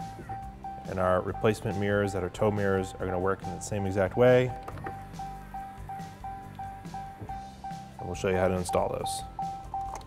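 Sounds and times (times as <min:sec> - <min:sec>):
dashboard warning chime: 0:00.2 - 0:10.0.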